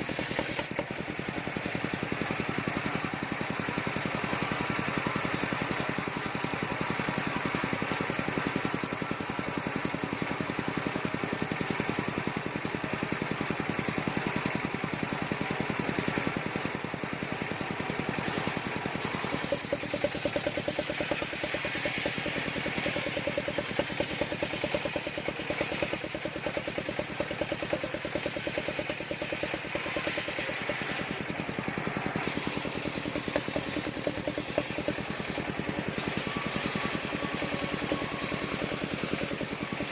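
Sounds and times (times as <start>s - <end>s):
saw rig engine running: 0.0s - 39.9s.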